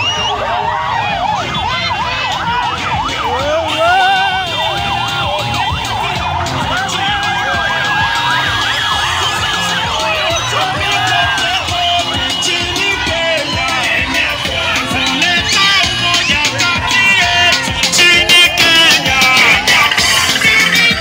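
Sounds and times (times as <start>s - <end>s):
police sirens wailing: 0.0s - 21.0s.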